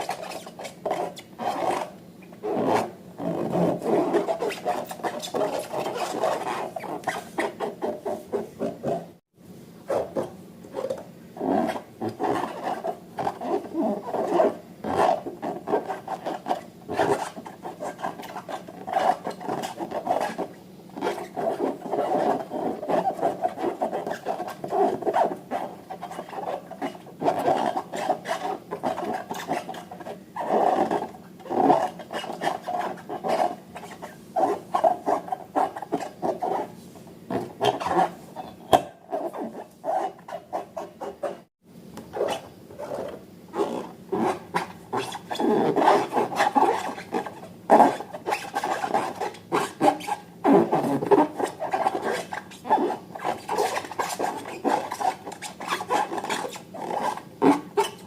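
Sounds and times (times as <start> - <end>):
rubber balloons squeaking: 0.0 - 9.2, 9.9 - 58.0.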